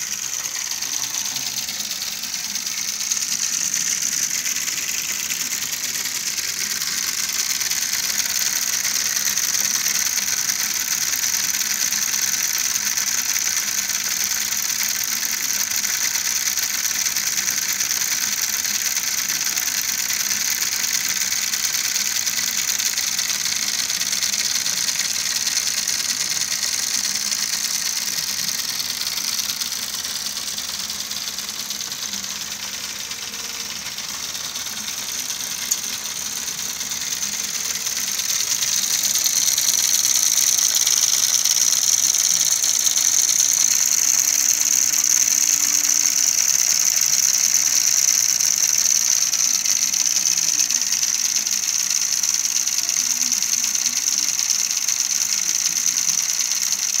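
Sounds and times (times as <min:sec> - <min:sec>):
small electric motor whirring: 0:00.0 - 0:57.0.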